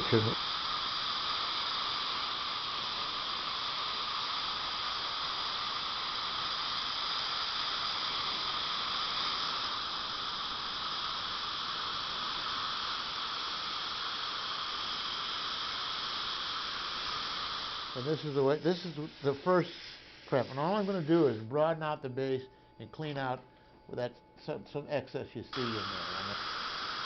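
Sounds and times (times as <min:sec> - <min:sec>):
dental drill with water spray: 0:00.0 - 0:22.0, 0:25.5 - 0:27.0.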